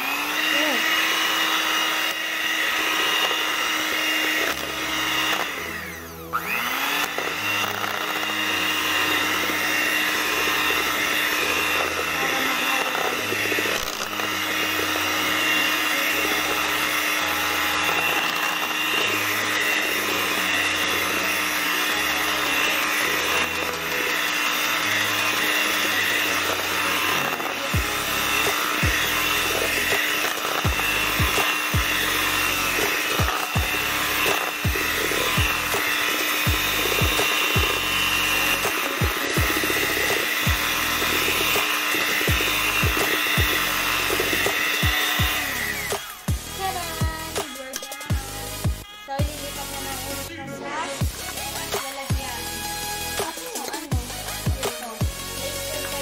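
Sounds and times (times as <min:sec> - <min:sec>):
electric hand mixer whine: 0:00.0 - 0:56.0.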